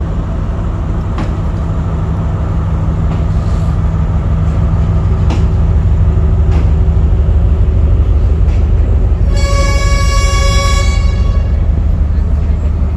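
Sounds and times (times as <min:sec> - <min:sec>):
diesel train engine drone: 0:00.0 - 0:12.9.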